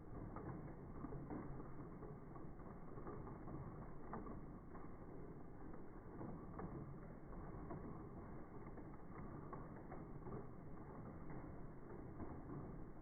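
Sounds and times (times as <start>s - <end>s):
slowed coffee pouring rumble: 0.0s - 13.0s.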